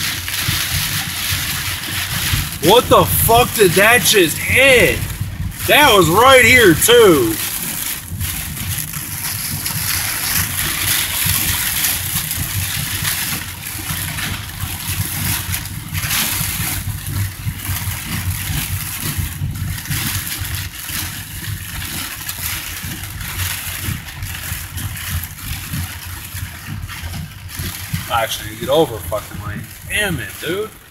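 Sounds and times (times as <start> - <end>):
engine and road rumble: 0.0 - 5.9, 6.6 - 30.9
tyres on wet road: 0.0 - 19.9, 21.8 - 30.9
heavy rain on a car: 0.0 - 30.9.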